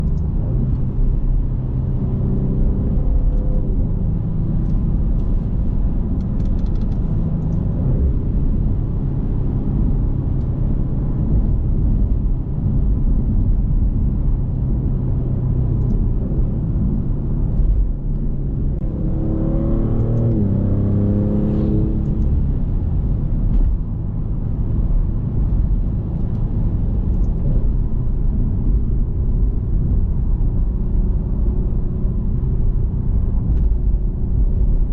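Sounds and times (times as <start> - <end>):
car engine rumbling: 0.0 - 34.9
road noise: 0.0 - 34.9.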